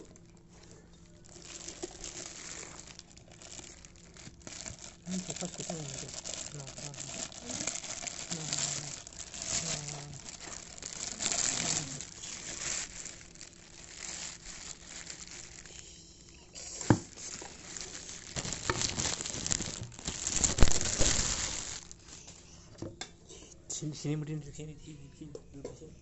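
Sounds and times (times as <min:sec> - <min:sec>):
plastic wrapping crinkling: 0:00.0 - 0:15.9, 0:16.5 - 0:22.6.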